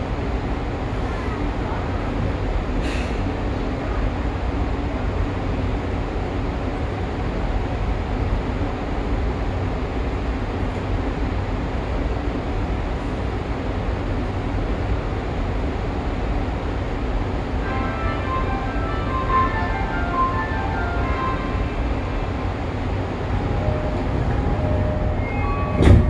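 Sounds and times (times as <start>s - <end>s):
subway car hum and rumble: 0.0s - 26.0s.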